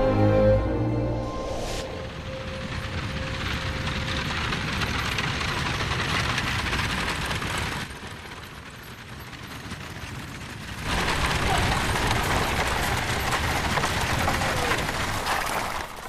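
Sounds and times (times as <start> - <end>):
horse hooves: 1.8 - 16.0
carriage rattling on dirt road: 2.2 - 16.0.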